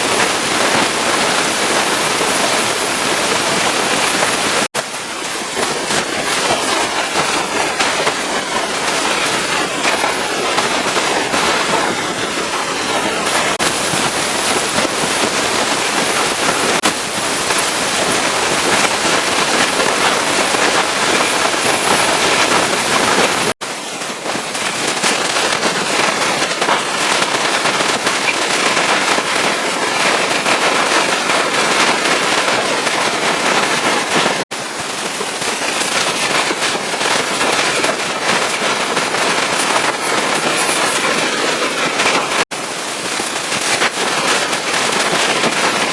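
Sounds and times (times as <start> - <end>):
pressure washer spraying: 0.0 - 45.9.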